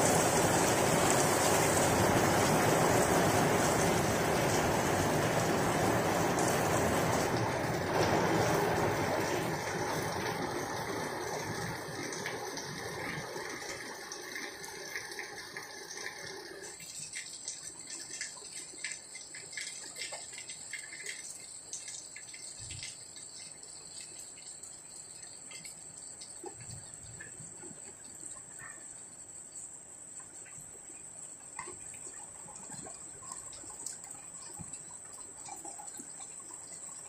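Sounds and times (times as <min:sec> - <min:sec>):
raindrops pattering: 0:00.0 - 0:28.9, 0:30.2 - 0:37.0
heavy rain on concrete roofs: 0:00.0 - 0:29.4, 0:30.2 - 0:37.0.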